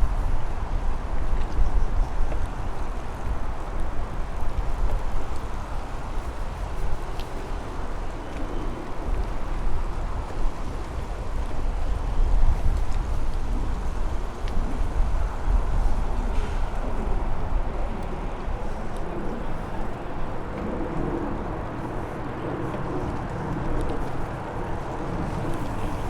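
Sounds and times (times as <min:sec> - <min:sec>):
wind on microphone: 0:00.0 - 0:26.0
traffic hum: 0:00.2 - 0:26.0.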